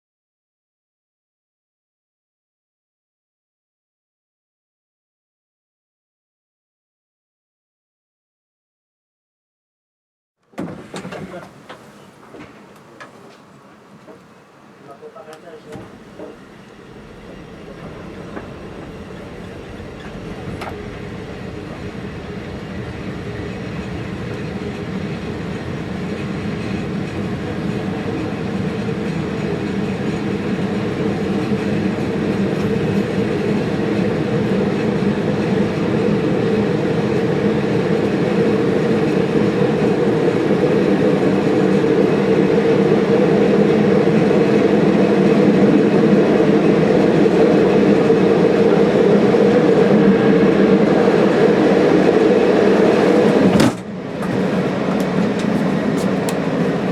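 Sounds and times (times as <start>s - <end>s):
train rumbling on rails: 10.6s - 56.9s.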